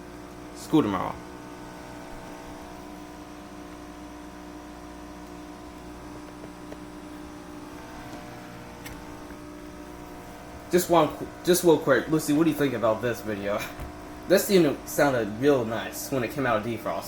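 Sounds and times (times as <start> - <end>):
heat pump humming: 0.0 - 17.0.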